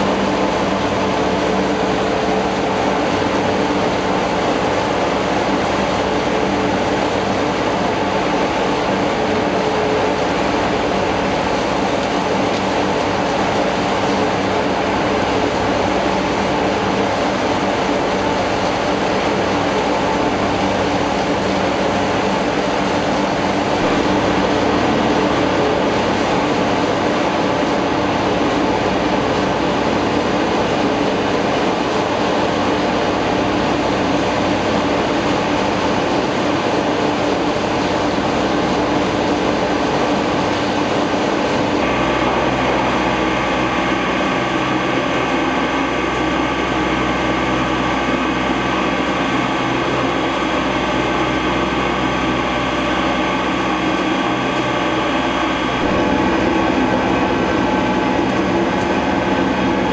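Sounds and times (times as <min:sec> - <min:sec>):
machine hum with held tones: 0:00.0 - 0:38.6, 0:39.3 - 0:59.9
conveyor machinery rumbling: 0:00.0 - 0:59.9.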